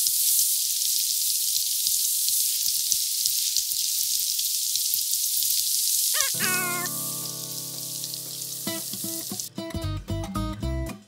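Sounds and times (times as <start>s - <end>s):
food sizzling in hot oil: 0.0s - 9.6s.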